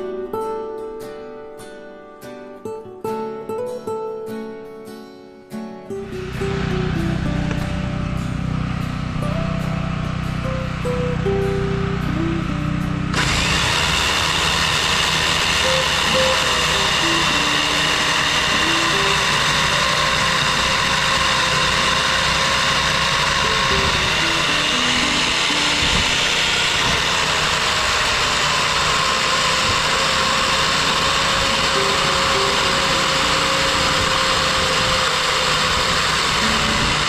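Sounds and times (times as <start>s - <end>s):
motor running: 6.0s - 37.0s.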